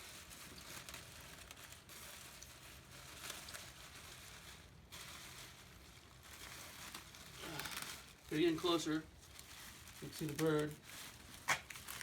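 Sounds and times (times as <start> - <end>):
faint rustling and handling: 0.0 - 12.0.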